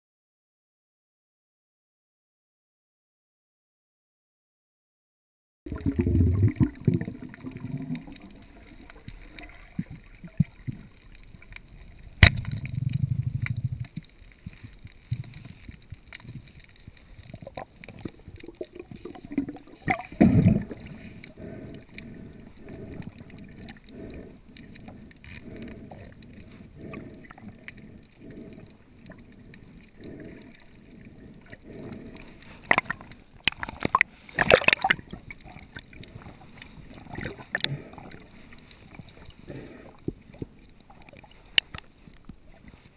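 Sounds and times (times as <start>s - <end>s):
muffled underwater noise: 5.7s - 42.9s.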